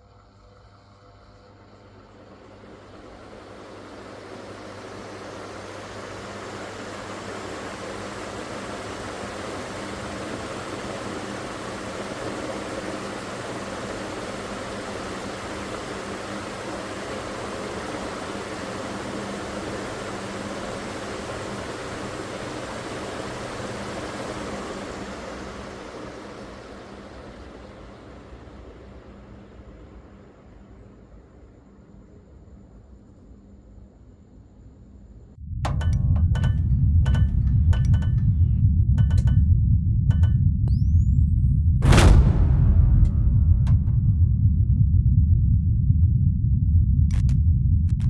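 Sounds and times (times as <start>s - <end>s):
ceiling fan running: 0.0s - 48.0s.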